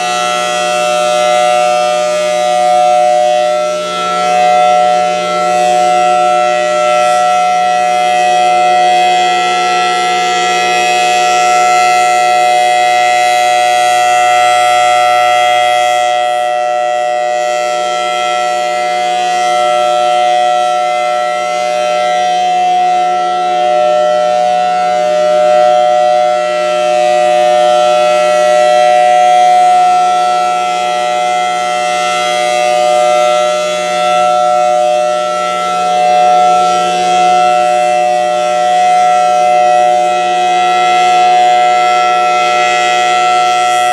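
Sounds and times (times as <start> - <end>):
steady siren chord: 0.0 - 43.9.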